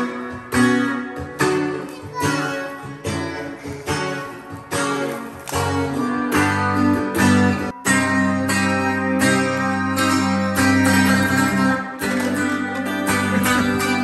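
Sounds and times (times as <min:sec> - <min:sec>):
clean electric guitar chords: 0:00.0 - 0:14.0.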